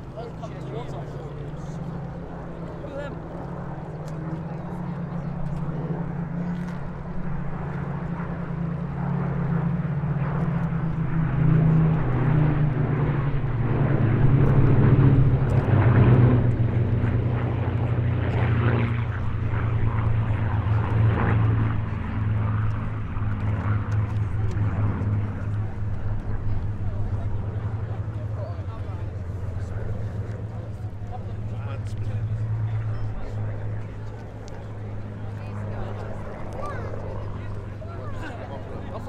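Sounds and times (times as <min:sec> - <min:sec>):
propeller aircraft flying past: 0:00.0 - 0:39.0.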